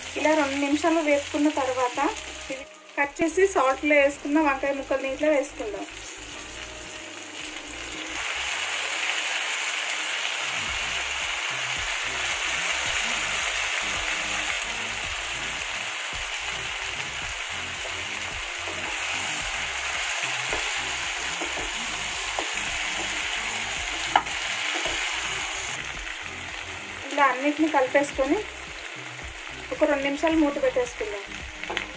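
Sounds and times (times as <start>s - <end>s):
vegetables sizzling in hot oil: 0.0s - 31.9s.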